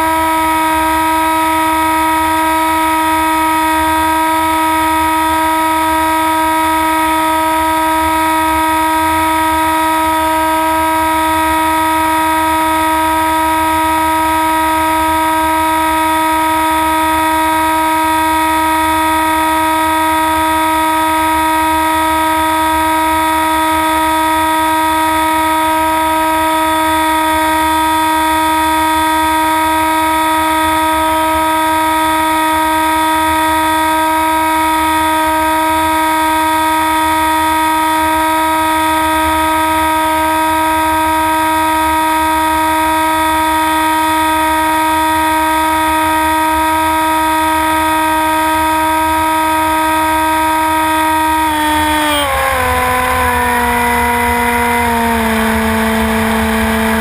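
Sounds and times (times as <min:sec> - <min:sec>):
steady buzzing drone: 0:00.0 - 0:57.0.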